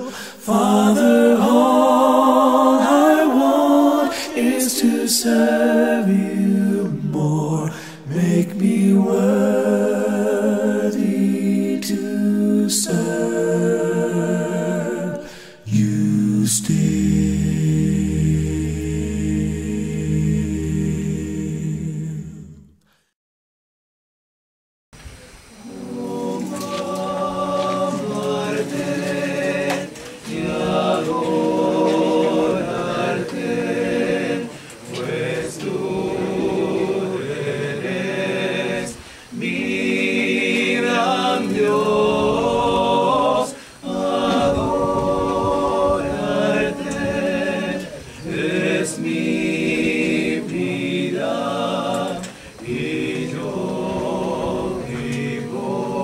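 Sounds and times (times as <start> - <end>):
men singing in close harmony: 0.0 - 22.7, 25.6 - 56.0.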